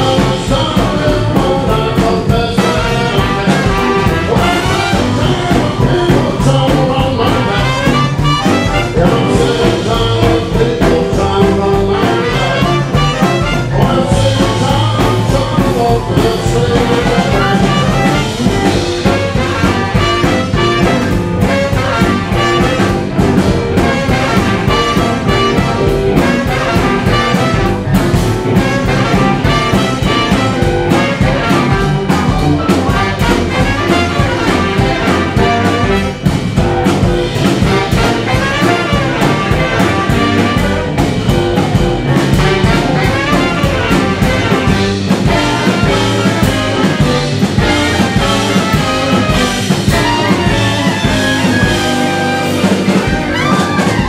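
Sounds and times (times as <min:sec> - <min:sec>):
live jump-blues band playing: 0:00.0 - 0:54.0
saxophone: 0:00.0 - 0:54.0
trumpet: 0:00.0 - 0:54.0.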